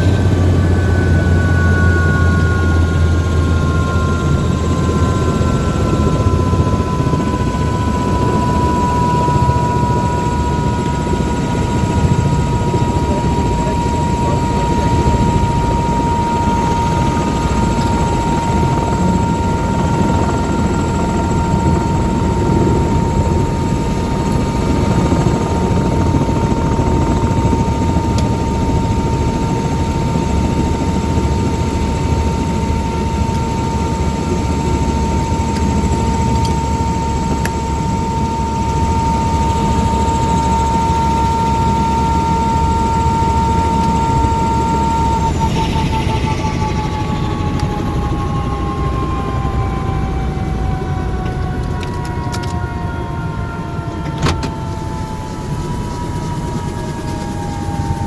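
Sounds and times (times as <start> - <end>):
helicopter rotor and engine: 0.0 - 58.0
high whine: 0.0 - 58.0.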